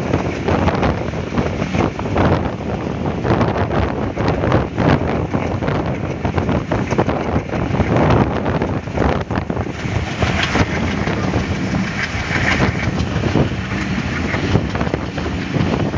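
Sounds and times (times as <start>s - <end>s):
train rumbling: 0.0s - 15.9s
wheels clattering on track: 0.0s - 15.9s
wind rushing over microphone: 0.0s - 15.9s.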